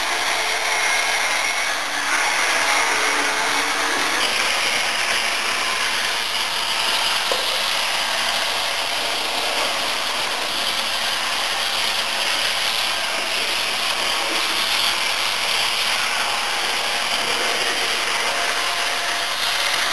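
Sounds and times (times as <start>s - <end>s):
model trains whirring and rattling: 0.0s - 19.9s.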